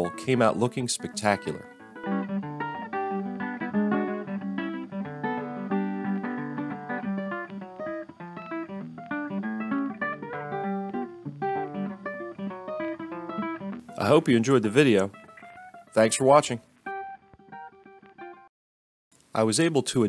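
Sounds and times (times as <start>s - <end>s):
ragtime acoustic guitar music: 0.0s - 18.4s.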